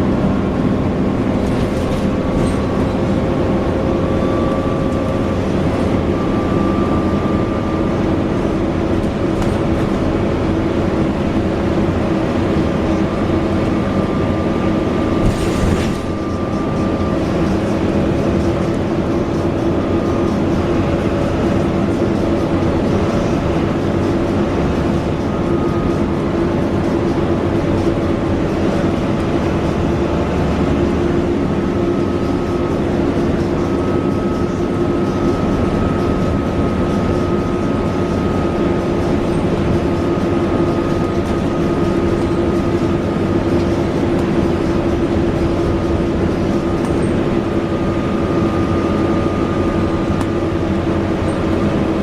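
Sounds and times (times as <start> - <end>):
bus engine drone: 0.0 - 52.0
high whine: 0.1 - 52.0.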